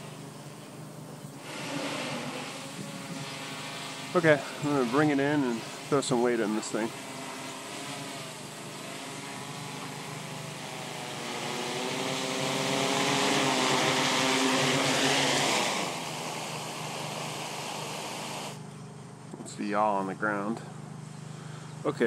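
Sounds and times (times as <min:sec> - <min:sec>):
drone propeller hum: 0:00.0 - 0:19.5.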